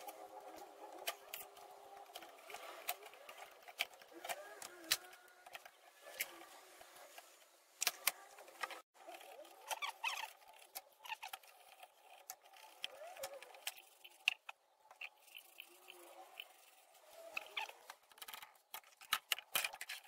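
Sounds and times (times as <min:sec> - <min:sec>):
knife scraping plastic: 0:00.0 - 0:20.0.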